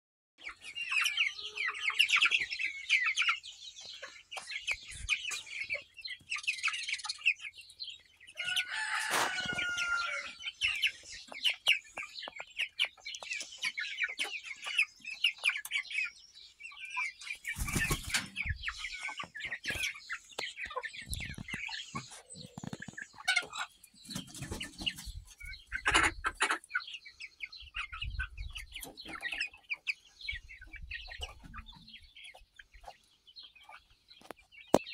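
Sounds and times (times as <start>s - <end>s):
chickens clucking: 0.4s - 34.9s.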